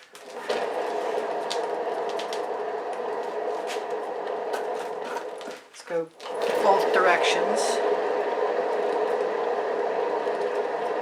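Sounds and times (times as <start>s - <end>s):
turntable whirring: 0.0s - 11.0s.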